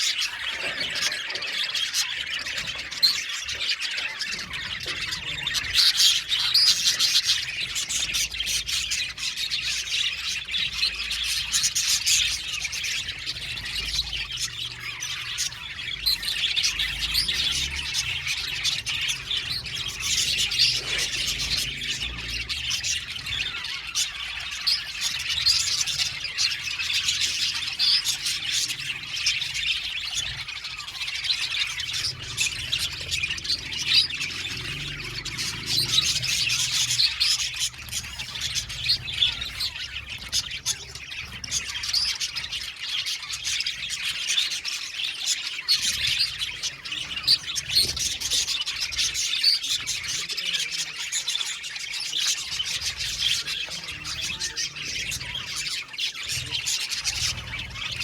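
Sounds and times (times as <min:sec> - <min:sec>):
flock of budgerigars chattering: 0:00.0 - 0:58.0.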